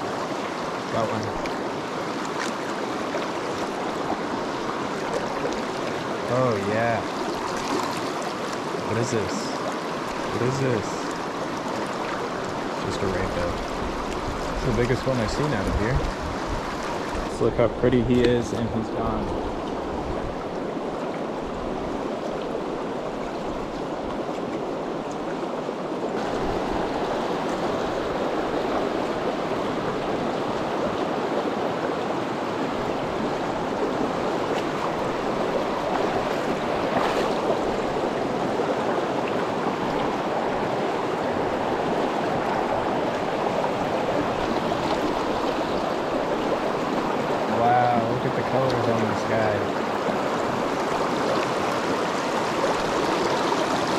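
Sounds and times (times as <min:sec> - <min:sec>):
stream rushing over boulders: 0:00.0 - 0:53.9.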